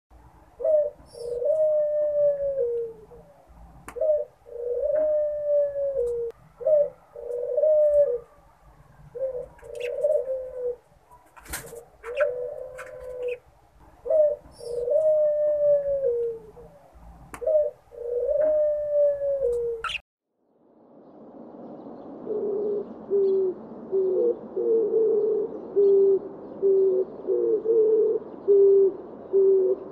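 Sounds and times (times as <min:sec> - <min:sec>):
dove cooing: 0:00.5 - 0:20.0, 0:22.3 - 0:29.9.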